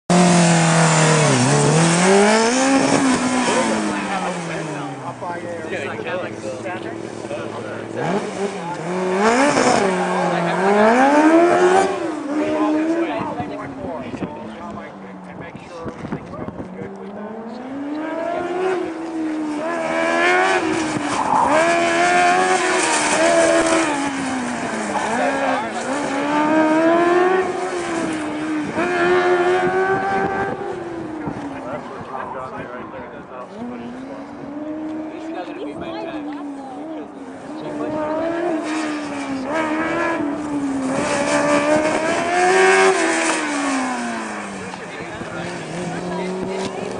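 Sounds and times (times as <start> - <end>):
race car engine revving: 0.1 - 46.9.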